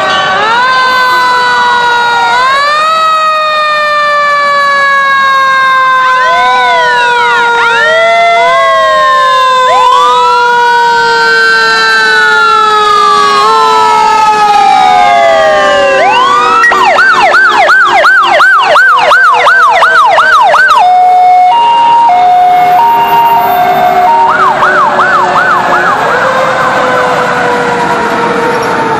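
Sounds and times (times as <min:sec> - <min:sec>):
electronic siren yelp: 0:00.0 - 0:28.9
fire engine sirens: 0:00.0 - 0:28.9
two-tone hi-lo siren: 0:00.0 - 0:28.9.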